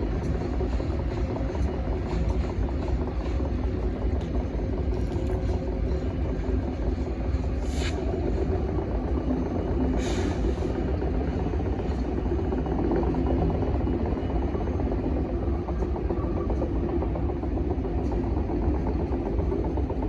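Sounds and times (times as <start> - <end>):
diesel train engine rumbling: 0.0 - 20.0.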